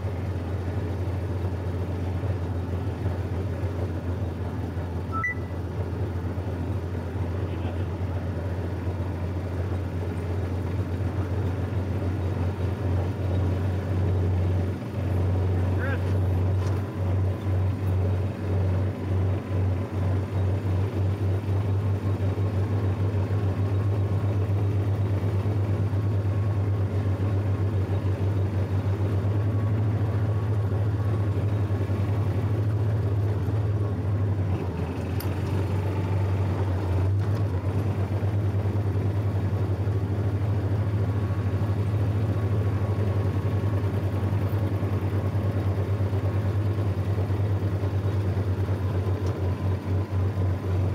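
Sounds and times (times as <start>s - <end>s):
garden tractor engine running: 0.0s - 50.9s.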